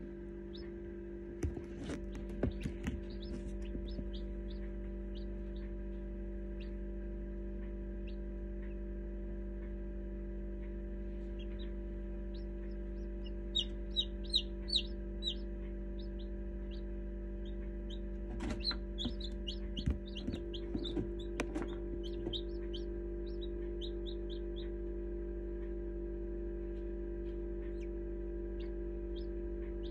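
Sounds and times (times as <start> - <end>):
incubator hum: 0.0 - 29.9
chicks peeping: 0.3 - 9.0, 10.6 - 25.8, 26.6 - 29.9.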